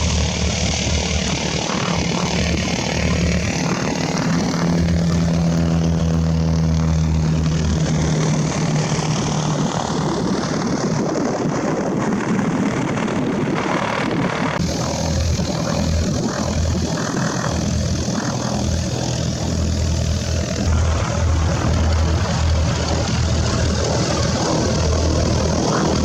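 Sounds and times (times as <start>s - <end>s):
propeller aircraft engine droning: 0.0s - 26.0s.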